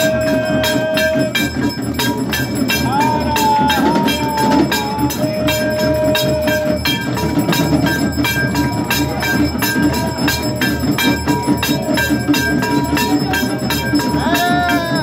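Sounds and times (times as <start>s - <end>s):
rhythmic low beat: 0.0s - 15.0s
temple bells ringing: 0.0s - 15.0s.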